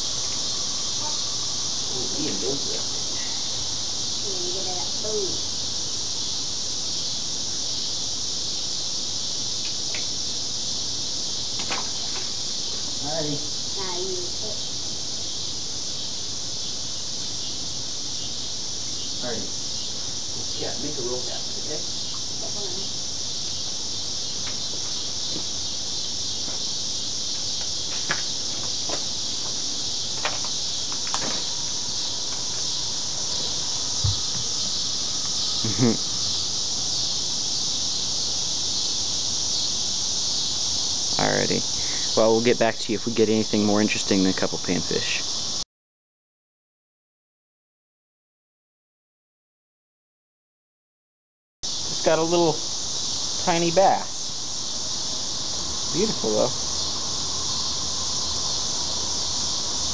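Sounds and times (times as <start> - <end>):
insect chorus drone: 0.0 - 45.6, 51.6 - 59.9.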